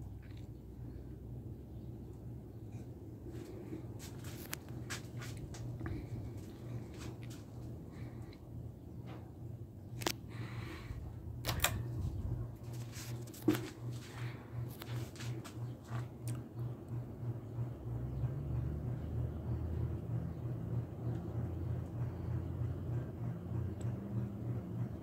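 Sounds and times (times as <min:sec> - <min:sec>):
ceiling fan motor hum: 0:00.0 - 0:25.0.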